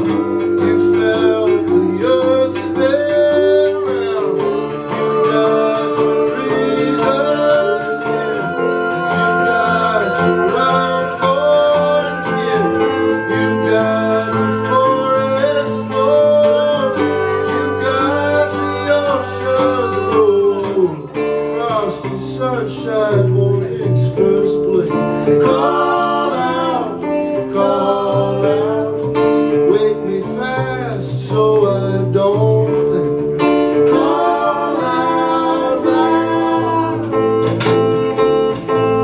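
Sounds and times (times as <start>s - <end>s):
guitars strumming: 0.0s - 39.0s.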